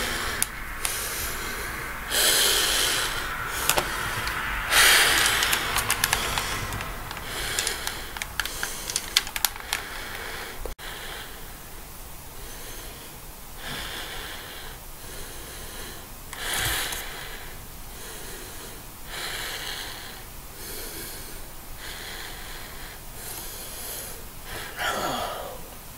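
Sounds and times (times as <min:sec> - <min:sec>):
heavy rasping breathing: 0:00.0 - 0:25.8.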